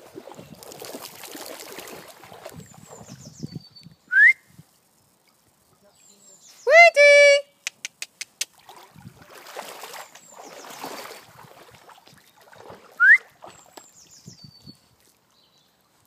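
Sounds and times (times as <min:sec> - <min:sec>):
water splashing and sloshing: 0:00.0 - 0:03.8, 0:04.6 - 0:06.1, 0:07.9 - 0:16.0.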